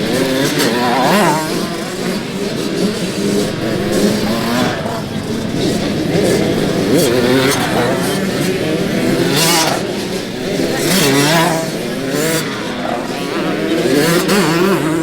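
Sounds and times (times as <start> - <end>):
motocross bike engines revving: 0.0 - 15.0
voices: 0.0 - 15.0.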